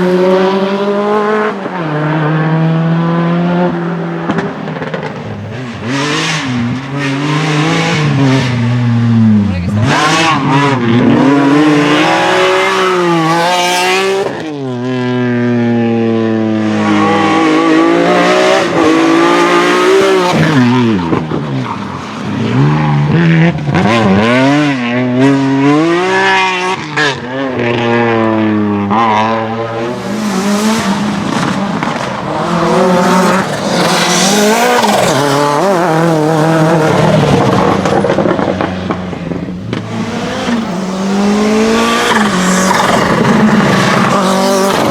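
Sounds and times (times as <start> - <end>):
race car engines revving: 0.0 - 44.9.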